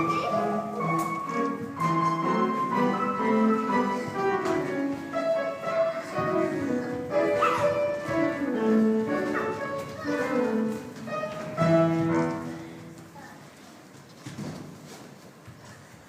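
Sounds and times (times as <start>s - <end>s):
classical music held notes: 0.0s - 13.2s.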